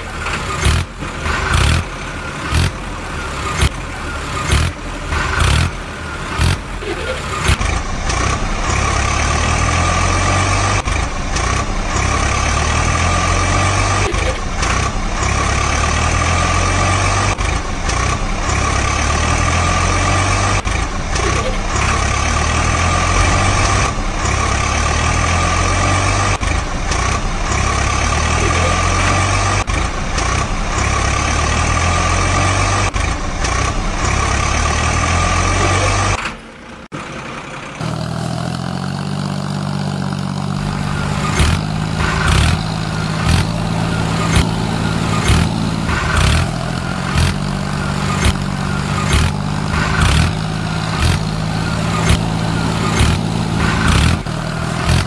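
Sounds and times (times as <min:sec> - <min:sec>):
heavy vehicle engine running: 0:00.0 - 0:55.0.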